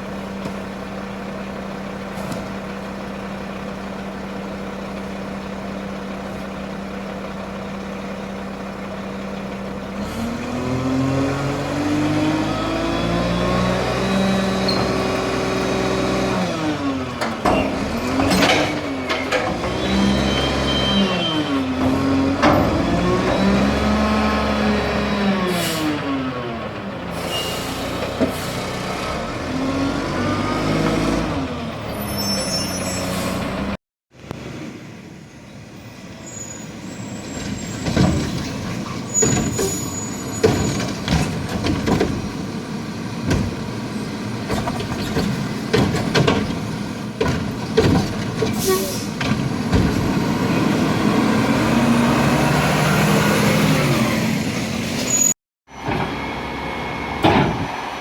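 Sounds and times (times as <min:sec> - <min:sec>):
garbage truck engine revving: 0:09.7 - 0:35.1, 0:36.8 - 0:58.0.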